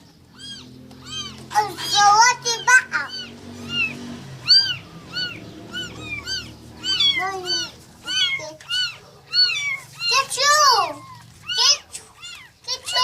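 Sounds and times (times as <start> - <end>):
kittens mewing: 0.0 - 13.0.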